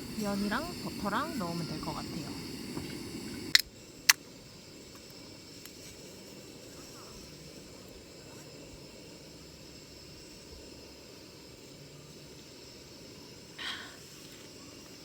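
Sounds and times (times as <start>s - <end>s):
gas stove burner hissing: 0.0s - 15.0s.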